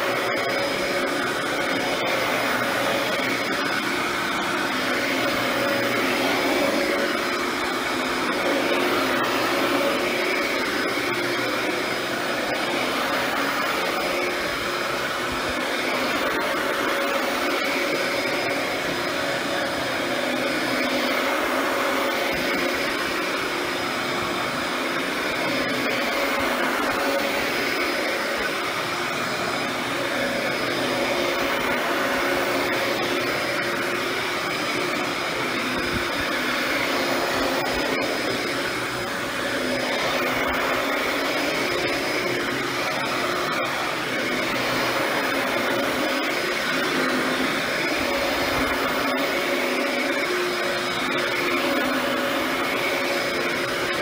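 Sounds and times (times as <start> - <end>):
vacuum cleaner running on carpet: 0.0 - 54.0.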